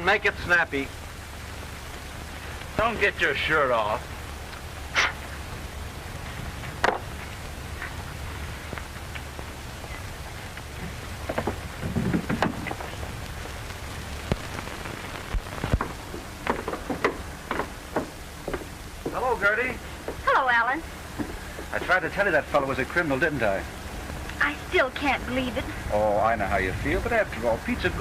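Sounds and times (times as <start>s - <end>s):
crackles and pops: 0.0s - 25.8s
film soundtrack hiss: 0.0s - 28.0s
low hum: 0.0s - 28.0s.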